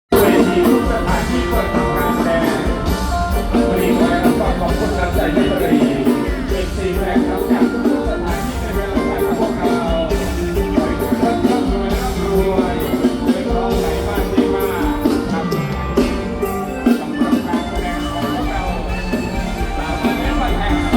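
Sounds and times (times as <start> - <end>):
electric instruments: 0.1 - 20.9
steady drum beat: 0.1 - 20.9.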